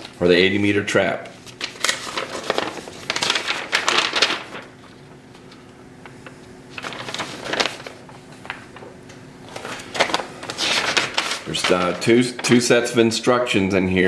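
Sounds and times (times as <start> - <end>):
faint steady hum: 0.0 - 14.0
paper rustling: 1.2 - 13.0.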